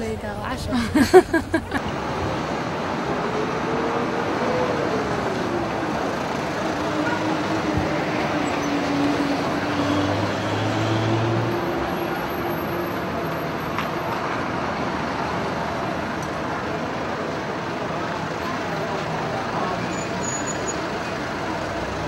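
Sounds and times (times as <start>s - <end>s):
busy road hiss: 0.0s - 22.0s
vehicle engines running: 0.0s - 22.0s.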